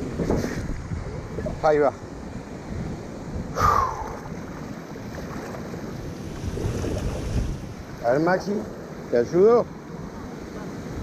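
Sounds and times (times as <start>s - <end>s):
river water rushing and splashing: 0.0s - 11.0s.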